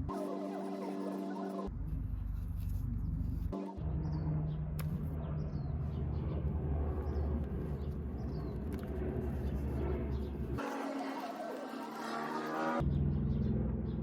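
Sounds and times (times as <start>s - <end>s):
low hum: 0.0s - 14.0s
small birds chirping: 0.1s - 14.0s.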